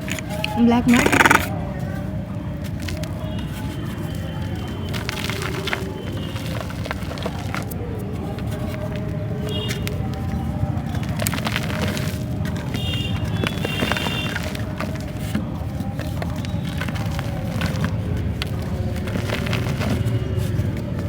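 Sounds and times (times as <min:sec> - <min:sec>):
dry clay crumbling by hand: 0:00.0 - 0:21.0.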